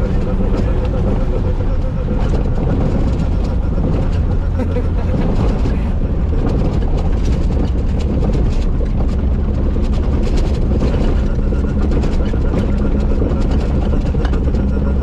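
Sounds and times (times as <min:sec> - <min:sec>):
rattles and knocks from bumps: 0:00.0 - 0:15.0
vehicle engine and tyres rumbling: 0:00.0 - 0:15.0.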